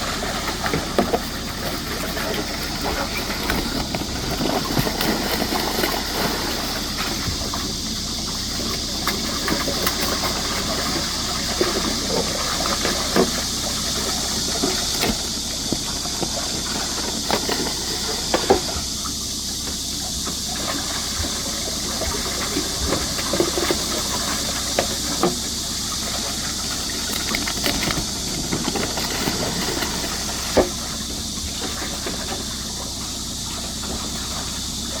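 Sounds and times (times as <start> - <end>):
rushing water: 0.0 - 35.0.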